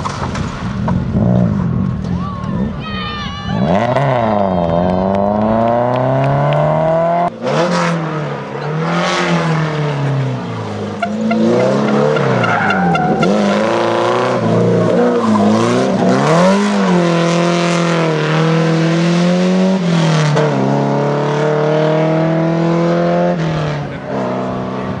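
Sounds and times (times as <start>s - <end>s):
rally car engines revving: 0.0s - 25.0s.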